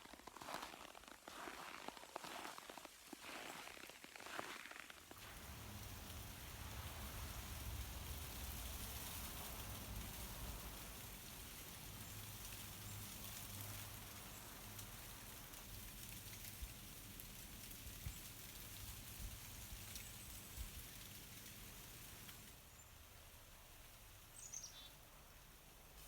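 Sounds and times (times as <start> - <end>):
ice fragments pattering down: 0.0 - 22.8
ice-coated branches crackling: 0.0 - 26.0.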